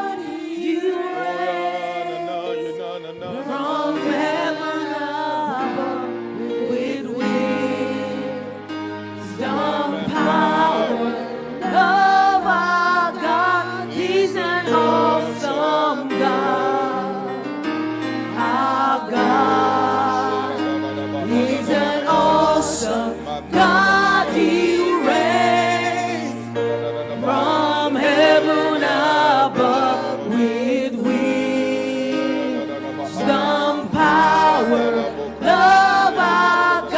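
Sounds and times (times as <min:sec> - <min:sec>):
keyboard chords: 0:00.0 - 0:36.9
person singing gospel: 0:00.0 - 0:36.9.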